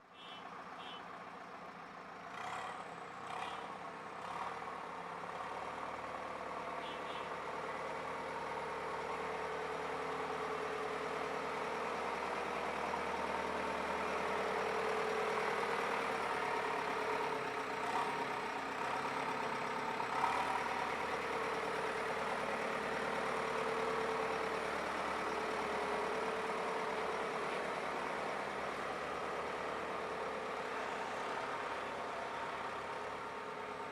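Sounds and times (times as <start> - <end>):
diesel engine idling: 4.8 - 33.9.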